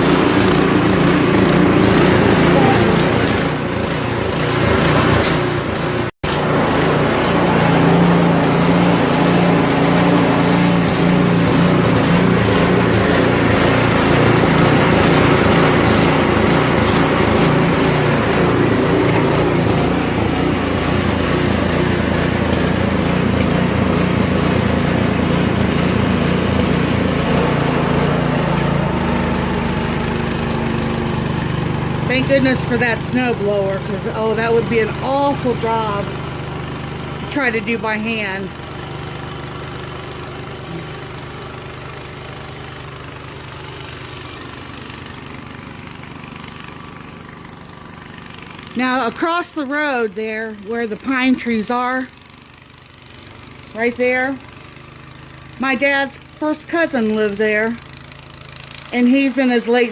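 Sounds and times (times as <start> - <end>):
snow blower engine running: 0.0 - 59.9.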